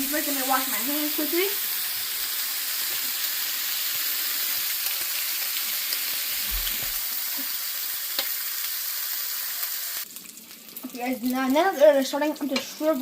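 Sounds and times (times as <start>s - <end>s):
bacon sizzling in a pan: 0.0s - 13.0s.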